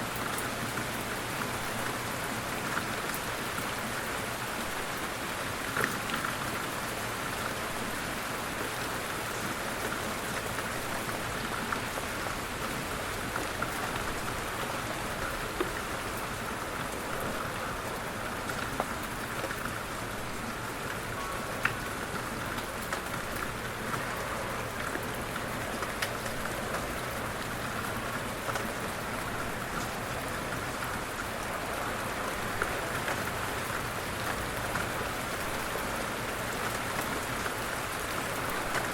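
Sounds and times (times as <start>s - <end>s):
light rain falling: 0.0s - 38.9s
sharp raindrops: 0.0s - 38.9s.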